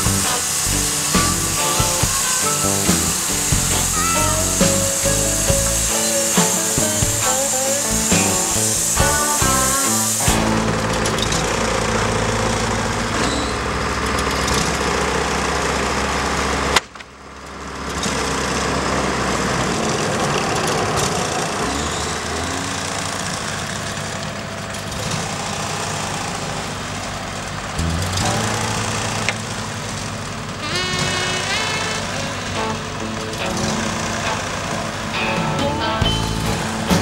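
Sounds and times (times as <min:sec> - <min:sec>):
sawmill engine running: 0:00.0 - 0:37.0.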